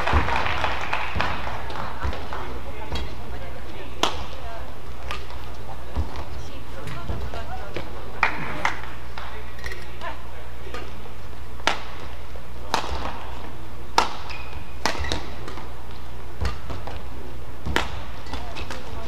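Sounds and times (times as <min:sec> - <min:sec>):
rackets hitting shuttlecock: 0:00.0 - 0:19.0
steady low hum: 0:00.0 - 0:19.0.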